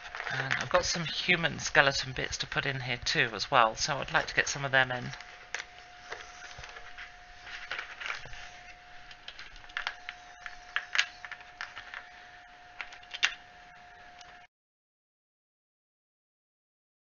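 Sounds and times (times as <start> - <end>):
faint high hum: 0.0 - 14.5.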